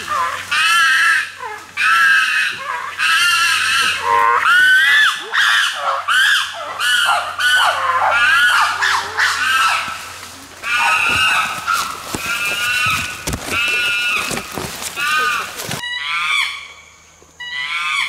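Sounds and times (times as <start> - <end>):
chimpanzees screaming: 0.0 - 16.7, 17.4 - 18.0.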